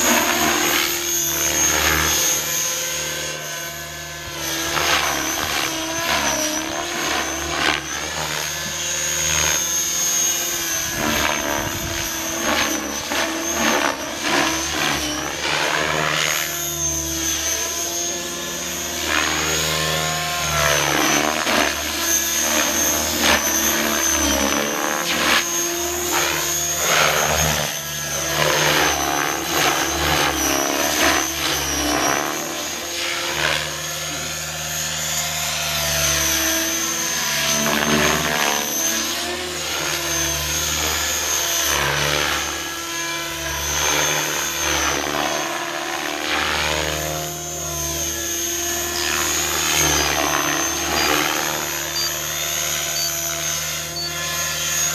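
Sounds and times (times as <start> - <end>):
model helicopter motor whine: 0.0 - 54.9.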